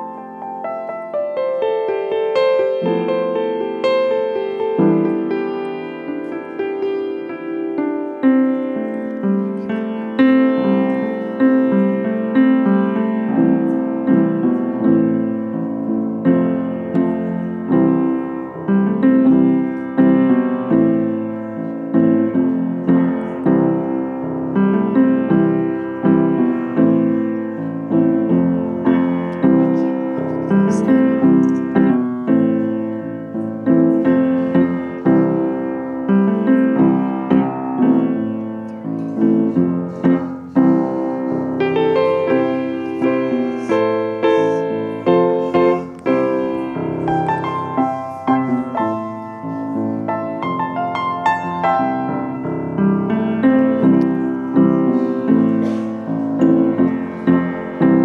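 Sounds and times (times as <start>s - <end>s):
solo piano piece: 0.0s - 58.0s.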